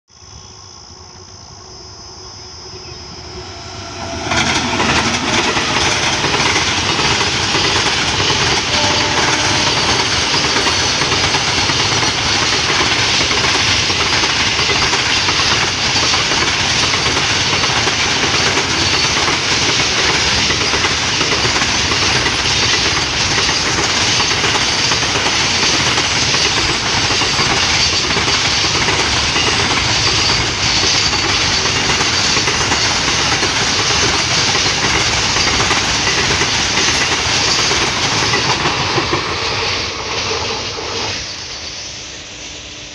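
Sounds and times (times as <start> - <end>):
freight train wheels clattering: 3.2 - 41.7.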